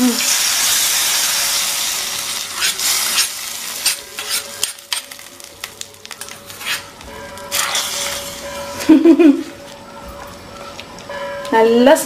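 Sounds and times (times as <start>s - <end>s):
hot oil sizzling: 0.0s - 11.1s.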